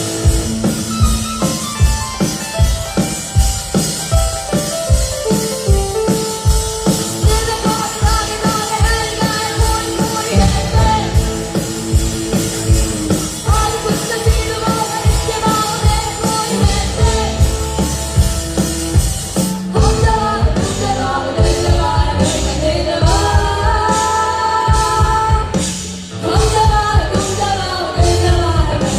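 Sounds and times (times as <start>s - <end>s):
drum kit beat: 0.0s - 28.9s
rock band playing: 0.0s - 28.9s.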